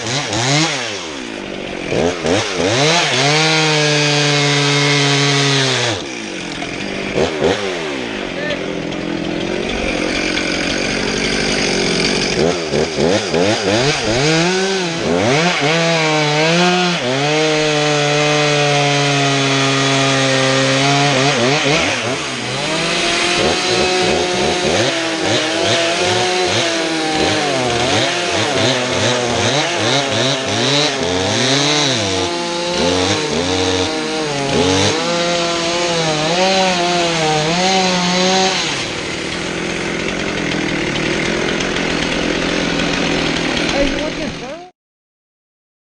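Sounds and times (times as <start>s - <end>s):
chainsaw revving and cutting: 0.0s - 44.7s.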